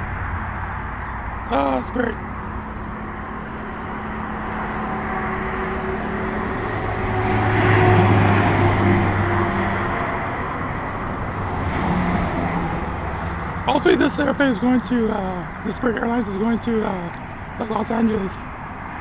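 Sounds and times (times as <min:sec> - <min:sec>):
engine rumble: 0:00.0 - 0:19.0
traffic noise: 0:00.0 - 0:19.0.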